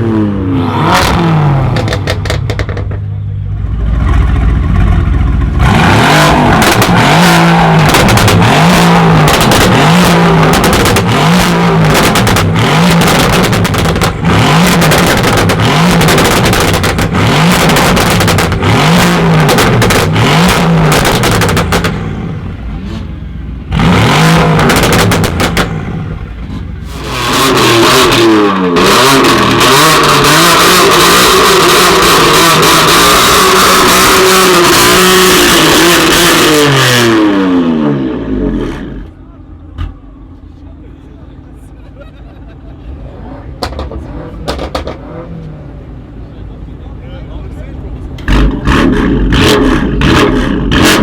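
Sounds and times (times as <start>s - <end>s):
car engine revving with crackles: 0.0s - 46.8s, 47.4s - 51.0s.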